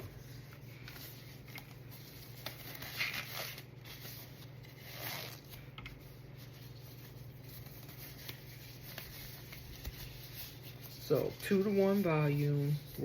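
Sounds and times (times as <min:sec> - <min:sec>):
rustles and scrapes of supplies: 0:00.0 - 0:13.0
steady low hum: 0:00.0 - 0:13.0.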